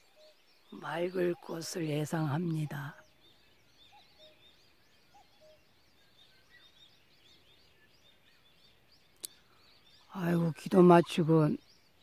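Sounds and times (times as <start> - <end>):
short lower bird calls: 0.0 - 12.0
small birds chirping: 0.0 - 12.0.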